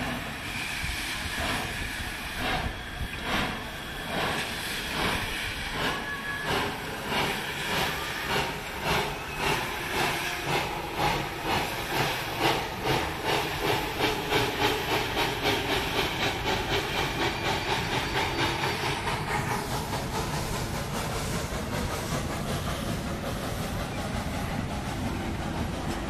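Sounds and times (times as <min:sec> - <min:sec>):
steady hiss of steam: 0:00.0 - 0:26.0
steam locomotive exhaust chuffs: 0:00.0 - 0:26.0.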